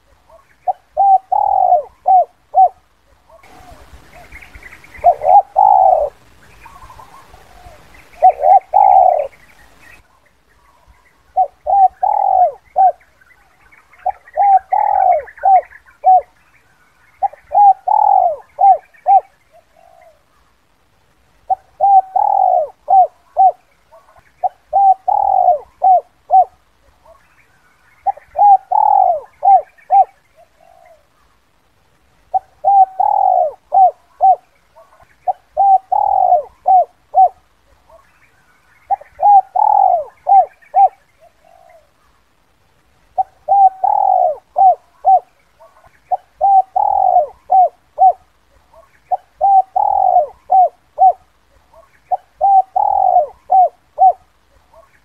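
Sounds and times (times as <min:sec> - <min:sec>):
dove cooing: 0:00.0 - 0:13.2, 0:13.9 - 0:16.4, 0:17.2 - 0:20.3, 0:21.4 - 0:27.3, 0:28.0 - 0:31.2, 0:32.3 - 0:38.1, 0:38.7 - 0:42.1, 0:43.1 - 0:55.0.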